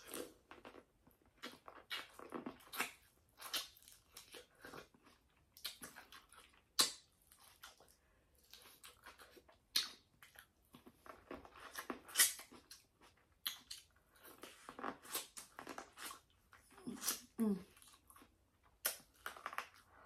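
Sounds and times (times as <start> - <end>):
wet chewing and smacking: 0.0 - 20.0.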